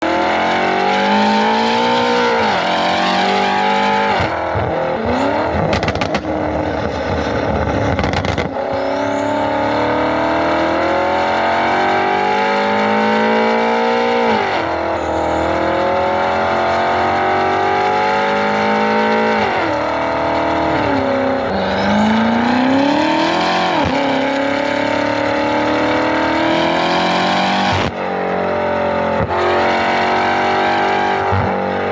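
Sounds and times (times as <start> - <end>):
car engine revving at full throttle: 0.0 - 31.9
exhaust crackling: 0.0 - 31.9.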